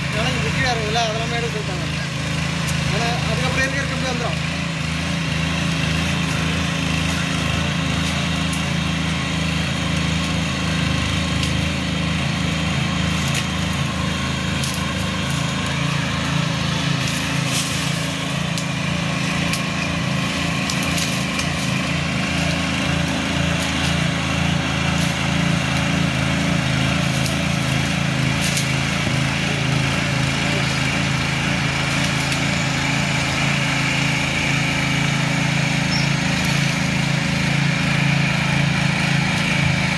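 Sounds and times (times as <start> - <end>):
petrol engine running under load: 0.0 - 39.9
rotary tines tilling soil: 0.0 - 39.9.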